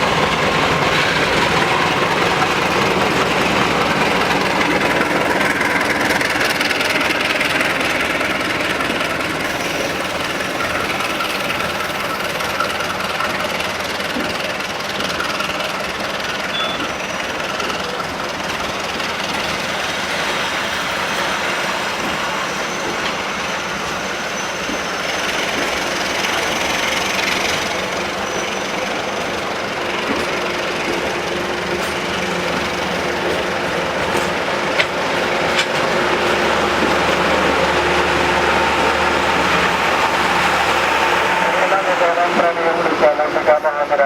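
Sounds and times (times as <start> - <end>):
diesel locomotive engine running: 0.0 - 44.0.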